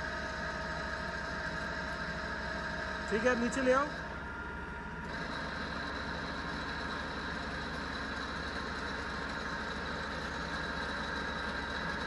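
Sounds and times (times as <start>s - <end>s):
drill machine humming and whining: 0.0s - 12.0s.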